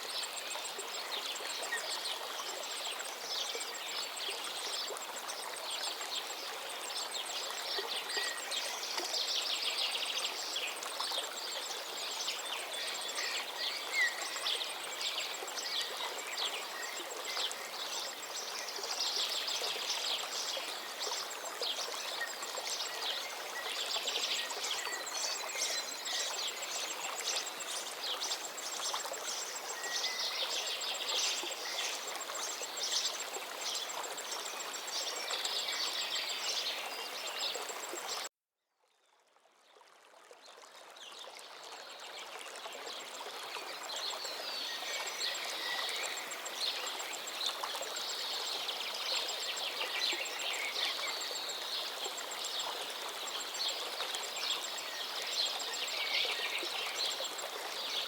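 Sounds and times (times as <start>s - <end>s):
river flowing: 0.0s - 38.3s, 39.4s - 58.0s.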